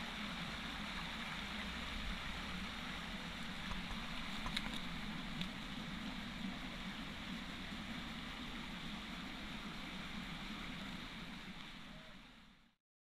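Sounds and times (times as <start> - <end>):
creek water rushing: 0.0 - 12.7.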